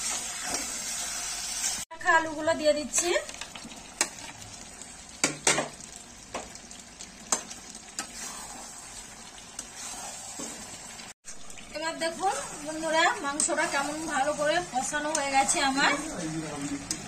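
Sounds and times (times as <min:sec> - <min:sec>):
curry sizzling in oil: 0:00.0 - 0:17.0.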